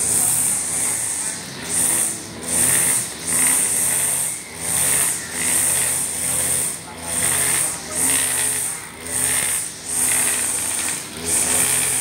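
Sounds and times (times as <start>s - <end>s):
brush cutter engine whining: 0.0s - 12.0s.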